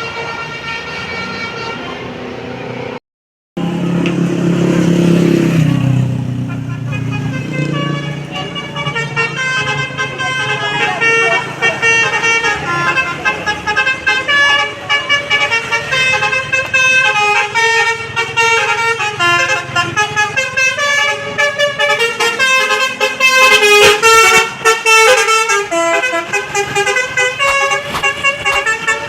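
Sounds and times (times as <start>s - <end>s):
multi-tone bus horn melody: 0.0s - 2.9s, 3.6s - 29.0s.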